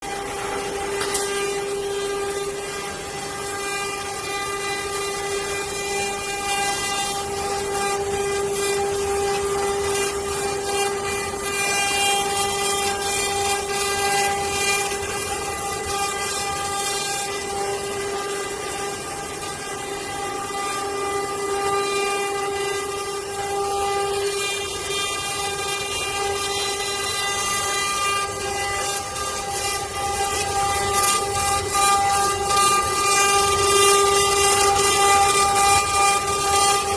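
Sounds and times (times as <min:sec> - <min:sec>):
router bit cutting wood: 0:00.0 - 0:36.9
router spindle whining: 0:00.0 - 0:36.9.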